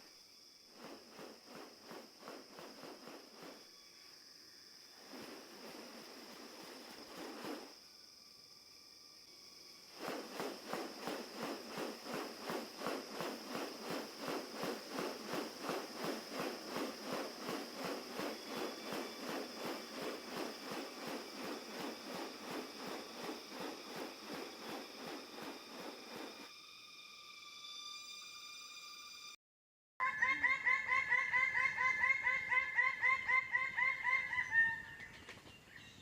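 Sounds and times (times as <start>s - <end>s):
high-pitched insect buzz: 0.0s - 29.3s
pulsing insect chorus: 0.0s - 29.3s.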